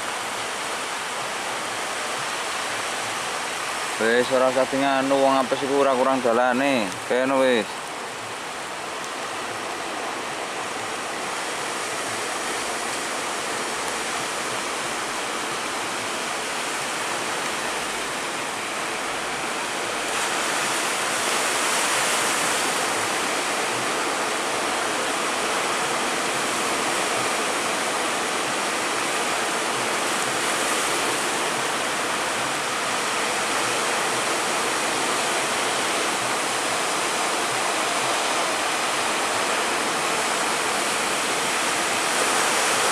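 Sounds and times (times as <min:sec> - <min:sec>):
rough sea surf rushing: 0:00.0 - 0:42.9.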